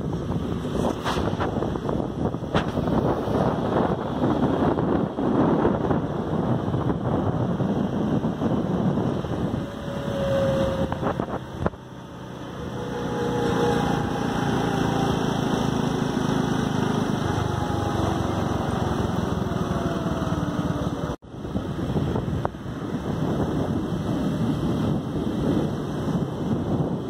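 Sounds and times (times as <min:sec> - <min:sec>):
motorcycle engine running: 0:00.0 - 0:27.0
wind rush: 0:00.0 - 0:27.0.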